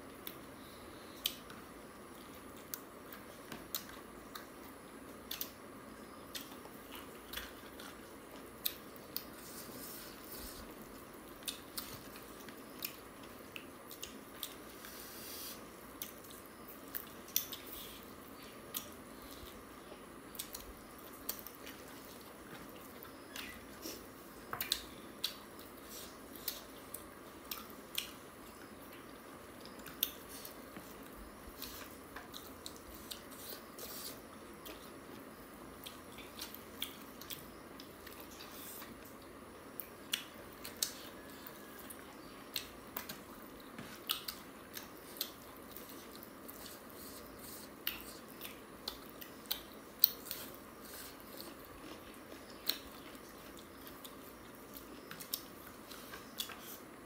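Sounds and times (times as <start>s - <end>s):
faint hiss: 0.0s - 57.0s
person chewing food: 0.1s - 5.6s, 6.2s - 57.0s.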